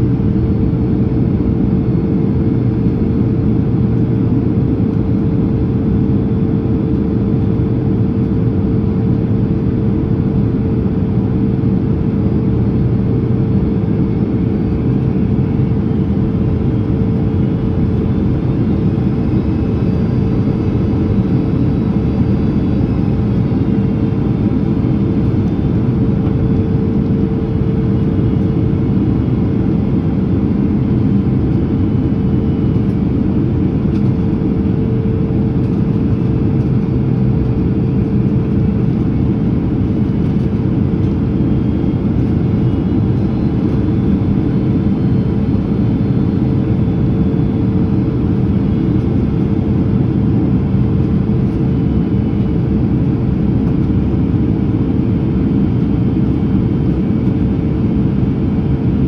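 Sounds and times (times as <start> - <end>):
airliner engine and airflow rumble: 0.0 - 59.0
constant hum: 0.0 - 59.0.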